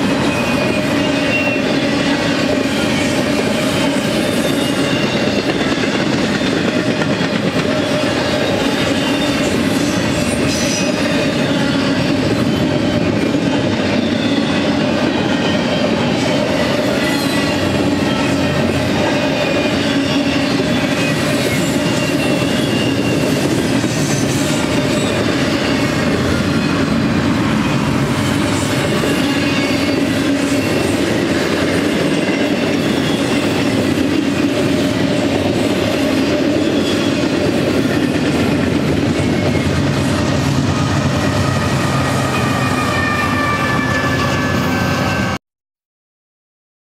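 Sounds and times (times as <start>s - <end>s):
freight train rolling past: 0.0s - 45.4s.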